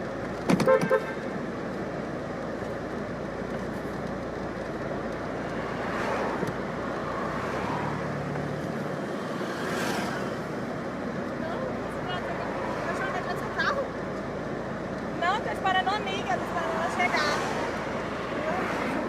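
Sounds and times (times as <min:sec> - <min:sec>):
road noise of cars: 0:00.0 - 0:19.0
vehicles passing: 0:00.0 - 0:19.0.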